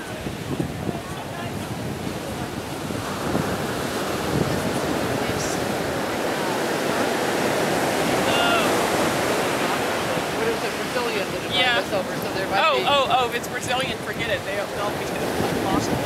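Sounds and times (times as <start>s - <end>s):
ocean surf on a beach: 0.0s - 16.0s
wind buffeting the microphone: 0.0s - 16.0s.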